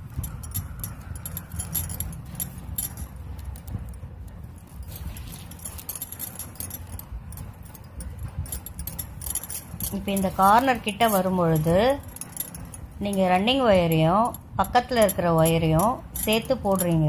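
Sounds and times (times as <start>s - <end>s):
plastic wire strands clicking: 0.0s - 17.0s.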